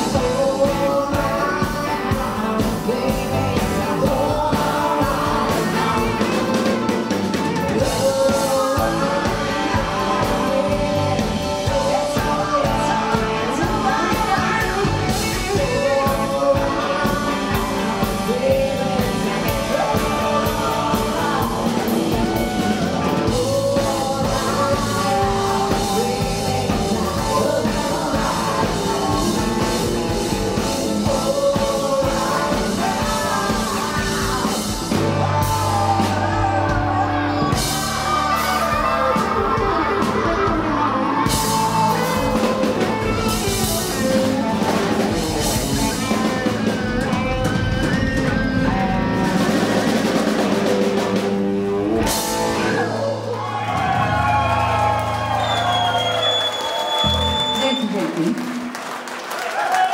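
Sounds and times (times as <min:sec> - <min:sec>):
woman singing: 0:00.0 - 0:53.4
electric and acoustic guitars: 0:00.0 - 0:59.9.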